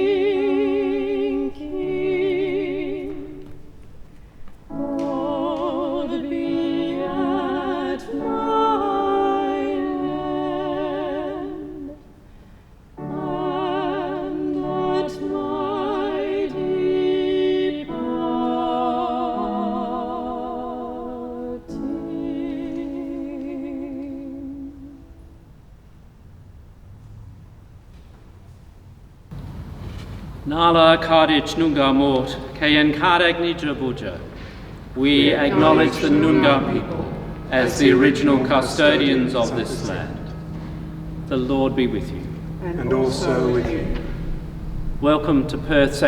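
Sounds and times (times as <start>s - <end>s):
classical singing with vibrato: 0.0s - 25.6s, 30.4s - 46.0s
sustained accompanying notes: 0.0s - 26.0s, 29.3s - 46.0s.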